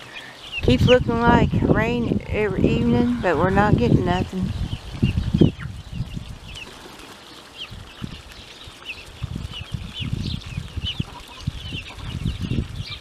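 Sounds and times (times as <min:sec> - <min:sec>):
chicks peeping: 0:00.0 - 0:01.5, 0:02.1 - 0:13.0.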